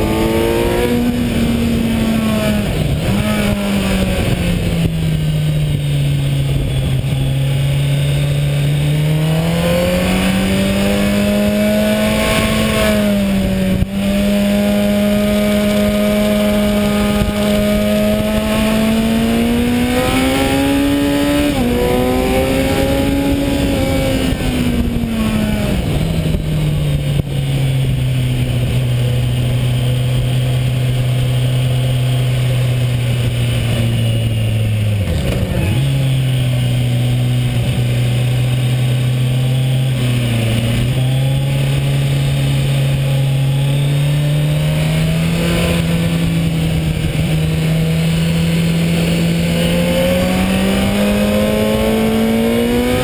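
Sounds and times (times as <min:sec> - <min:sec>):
motorcycle engine revving: 0:00.0 - 0:53.0
wind noise over microphone: 0:00.0 - 0:53.0.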